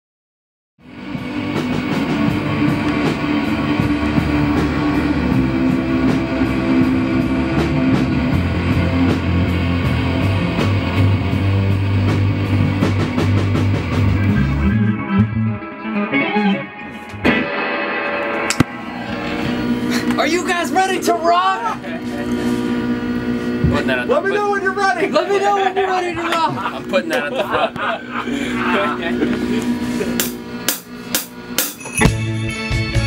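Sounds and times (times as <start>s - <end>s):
held bass notes: 0.8s - 33.0s
rock band playing live: 0.8s - 33.0s.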